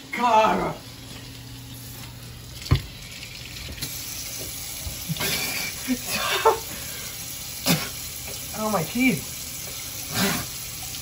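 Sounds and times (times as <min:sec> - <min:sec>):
faucet running into steel sink: 0:00.2 - 0:11.0.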